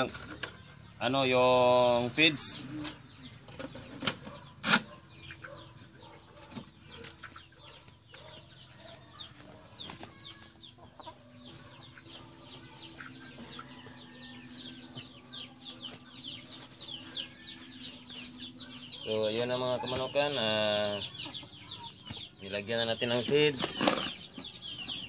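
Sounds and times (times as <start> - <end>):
chickens peeping: 0.0 - 25.0.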